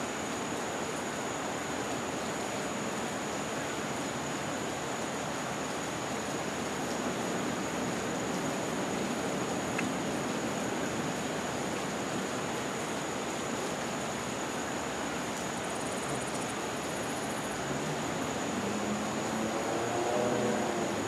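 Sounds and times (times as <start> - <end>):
rushing outdoor background noise: 0.0 - 21.0.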